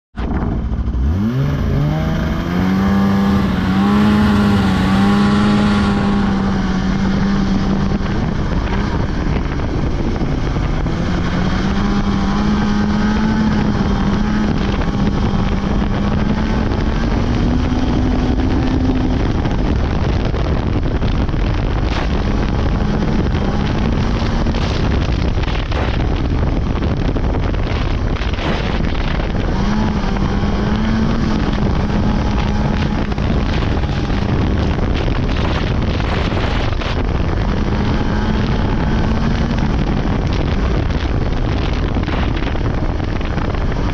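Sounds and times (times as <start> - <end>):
wind on microphone: 0.1 - 43.9
snowmobile engine revving: 0.8 - 20.3, 21.8 - 26.0, 28.2 - 43.9.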